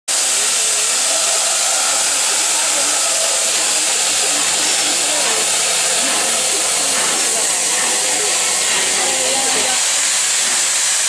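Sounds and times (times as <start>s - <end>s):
steam hissing from locomotive: 0.1s - 11.0s.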